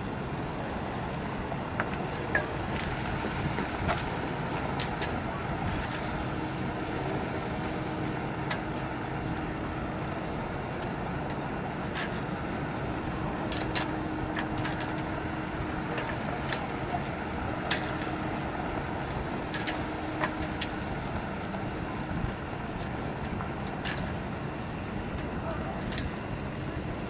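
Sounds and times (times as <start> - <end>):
boat engine rumble: 0.0 - 27.0
faint steady hum: 0.0 - 27.0.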